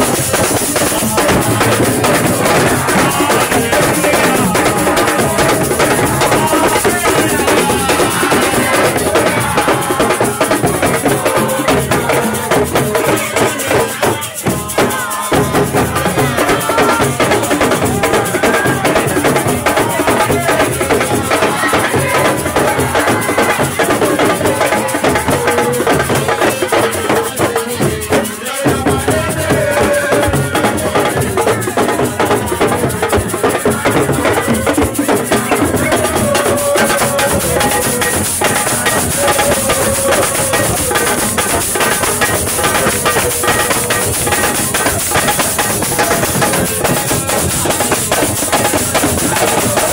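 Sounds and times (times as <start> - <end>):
music with drumming and rattles: 0.0 - 49.9.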